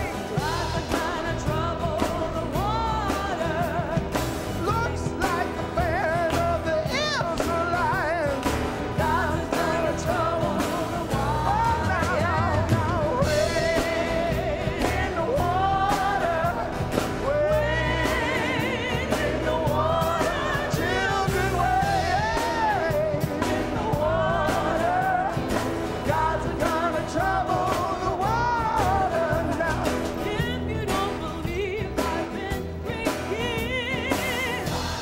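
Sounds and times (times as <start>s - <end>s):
choir singing with vibrato: 0.0s - 35.0s.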